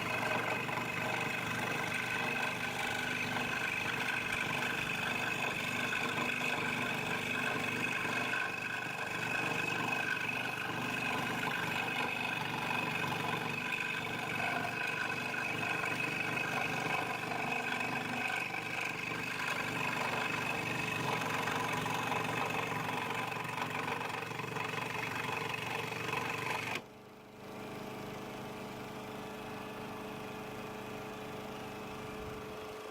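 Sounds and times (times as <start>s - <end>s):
scroll saw cutting wood: 0.0s - 26.9s.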